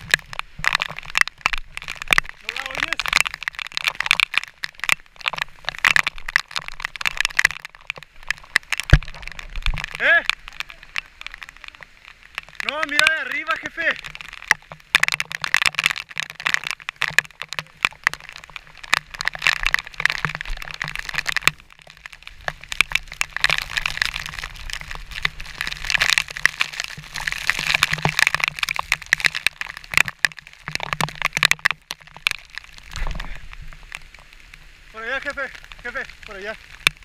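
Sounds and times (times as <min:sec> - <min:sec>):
crackling and clicking on camera: 0:00.0 - 0:37.0.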